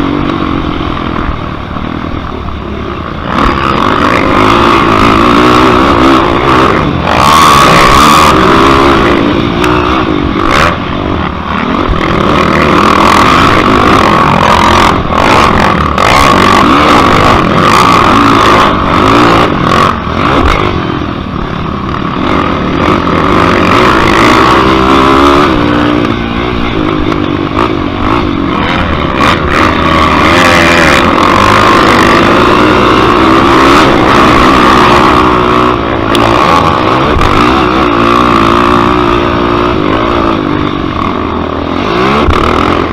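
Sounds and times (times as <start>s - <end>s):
quad engine revving: 0.0s - 42.9s.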